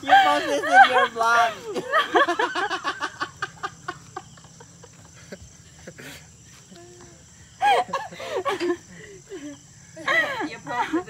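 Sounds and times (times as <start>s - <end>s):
people laughing: 0.0s - 6.4s, 7.5s - 11.0s.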